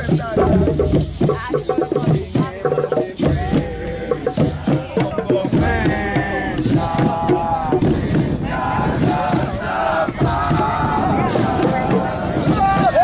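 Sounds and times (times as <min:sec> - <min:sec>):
drumming and percussion: 0:00.0 - 0:13.0
voices chanting and calling out: 0:00.0 - 0:13.0.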